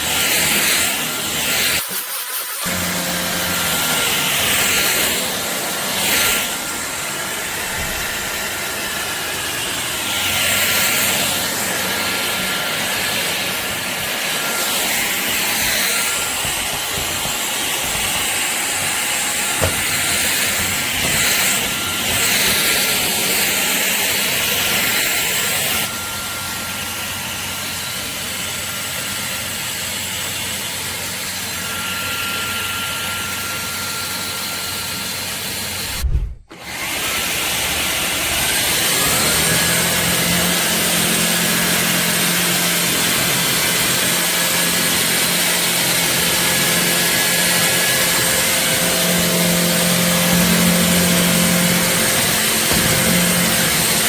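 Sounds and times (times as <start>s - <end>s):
stick vacuum whining: 0.0s - 54.0s.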